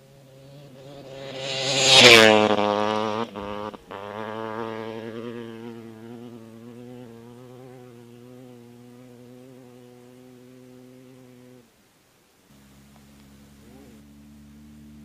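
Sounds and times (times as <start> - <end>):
race vehicle engine buzzing: 0.0 - 11.6, 12.5 - 15.0.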